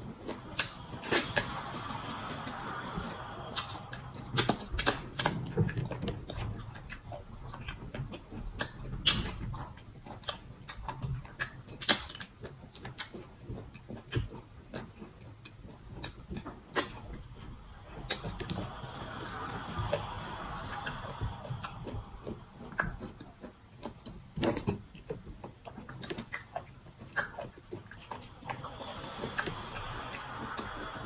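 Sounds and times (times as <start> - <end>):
wet chewing mouth sounds: 0.0 - 31.0.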